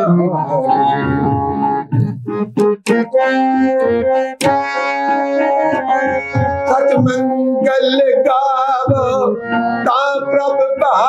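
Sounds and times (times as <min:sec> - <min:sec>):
held keyboard notes: 0:00.0 - 0:11.0.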